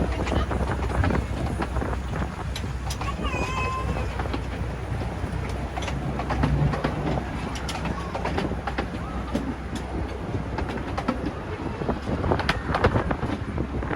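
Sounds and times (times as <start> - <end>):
train rumbling: 0.0 - 13.9
wheels clacking on track: 0.0 - 13.9.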